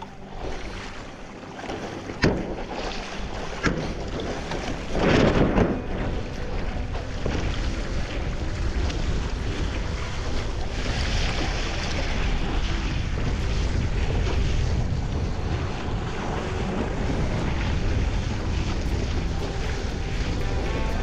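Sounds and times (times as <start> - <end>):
water rushing and splashing: 0.0 - 21.0
wind buffeting microphone: 2.0 - 21.0.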